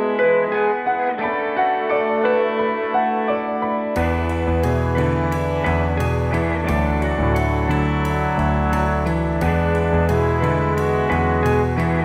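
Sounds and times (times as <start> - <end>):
gentle piano instrumental: 0.0 - 12.0.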